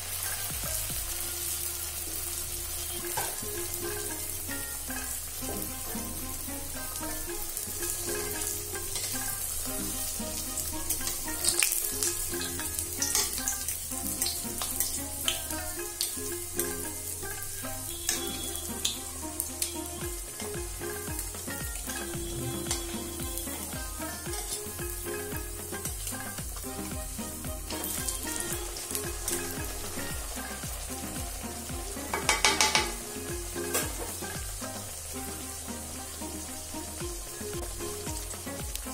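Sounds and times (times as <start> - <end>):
pastry sizzling in hot oil: 0.0 - 38.9.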